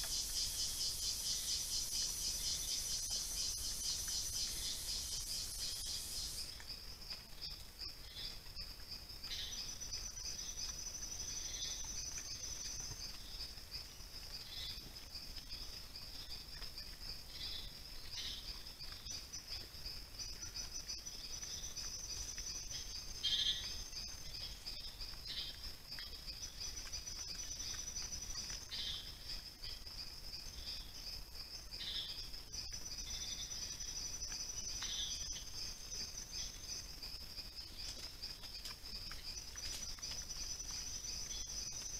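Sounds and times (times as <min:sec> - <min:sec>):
higher insect song: 0:00.0 - 0:41.9
insects chirring in pulsing trill: 0:00.0 - 0:41.9.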